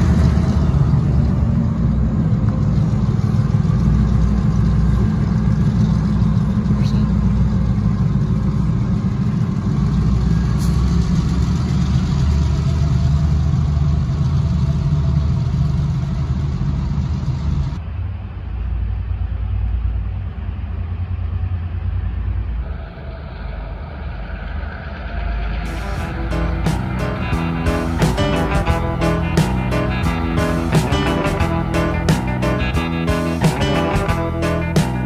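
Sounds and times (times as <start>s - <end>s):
diesel locomotive engine rumble: 0.0s - 35.0s
distant locomotive rumble: 0.0s - 35.0s.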